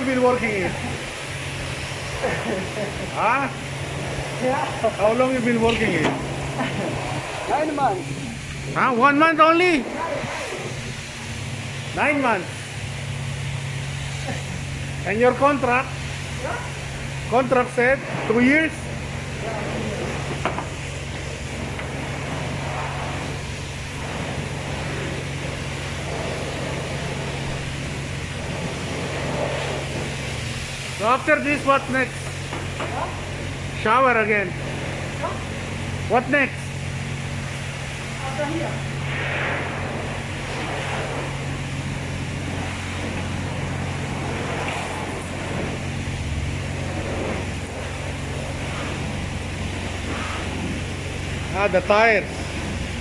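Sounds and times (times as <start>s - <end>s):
car engine idling: 0.0s - 53.0s
even hiss: 0.0s - 53.0s
low motor hum: 0.0s - 53.0s.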